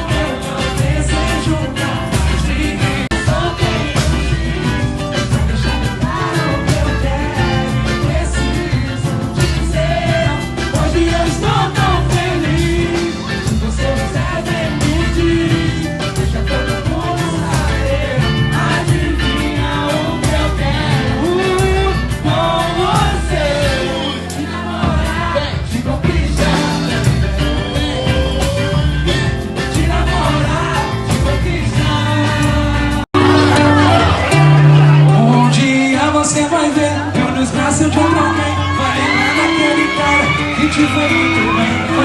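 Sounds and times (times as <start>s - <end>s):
fast samba percussion: 0.0s - 42.0s
group singing: 0.0s - 42.0s.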